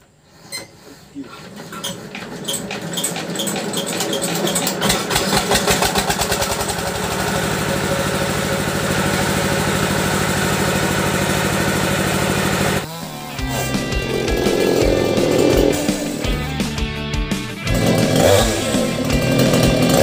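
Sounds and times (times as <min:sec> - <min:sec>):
small engine starting and running: 0:01.2 - 0:20.0.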